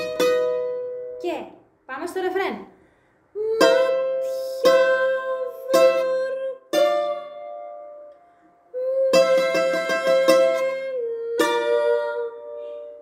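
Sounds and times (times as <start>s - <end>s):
bouzouki tremolo picking: 0.0s - 1.2s, 3.4s - 13.0s
bouzouki picked notes: 0.0s - 1.3s, 3.4s - 13.0s.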